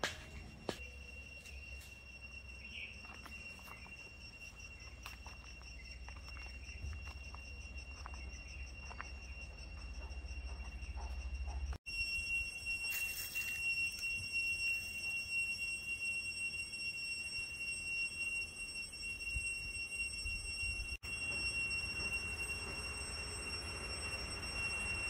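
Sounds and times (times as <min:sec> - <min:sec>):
cicadas singing: 0:00.0 - 0:25.0.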